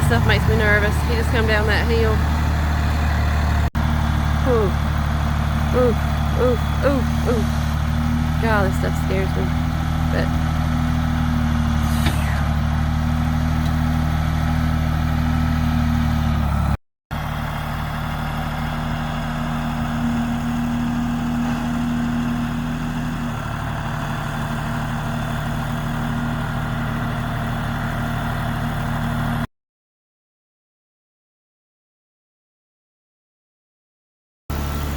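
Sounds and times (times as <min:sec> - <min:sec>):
engine running at low speed: 0:00.0 - 0:29.5, 0:34.5 - 0:34.9.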